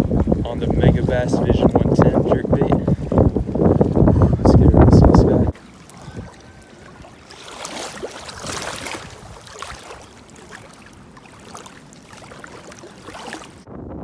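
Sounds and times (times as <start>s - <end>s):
water splashing and sloshing: 0.0s - 13.8s.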